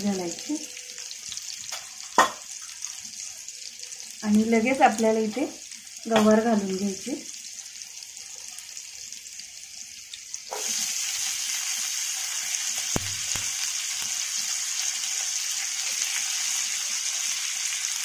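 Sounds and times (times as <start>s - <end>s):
loud steady sizzle: 0.0s - 18.0s
oil sizzling in a pan: 0.0s - 18.0s.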